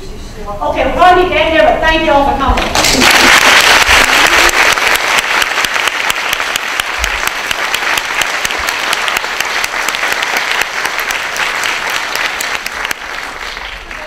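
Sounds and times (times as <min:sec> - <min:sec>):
audience applauding: 0:02.7 - 0:14.0.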